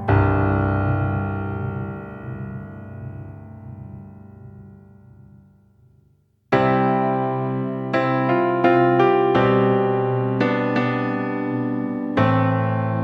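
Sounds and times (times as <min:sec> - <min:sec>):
piano chords: 0:00.0 - 0:05.9, 0:06.5 - 0:13.0.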